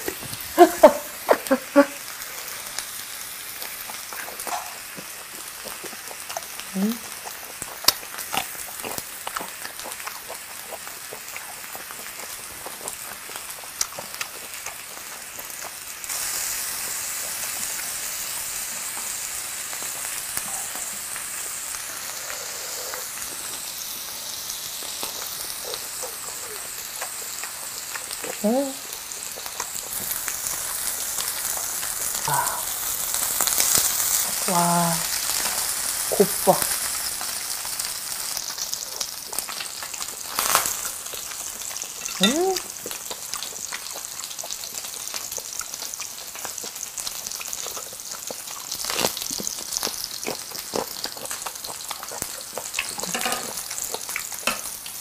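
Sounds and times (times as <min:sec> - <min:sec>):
meat sizzling on a grill: 0:00.0 - 0:55.0.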